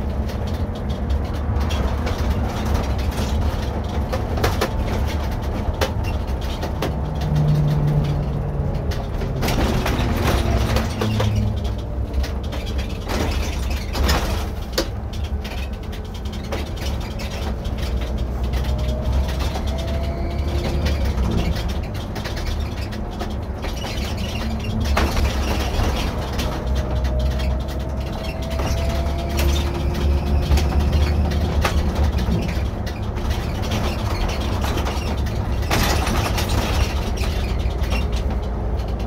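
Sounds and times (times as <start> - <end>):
bodywork knocks and rattles: 0.0 - 39.0
coach engine rumble: 0.0 - 39.0.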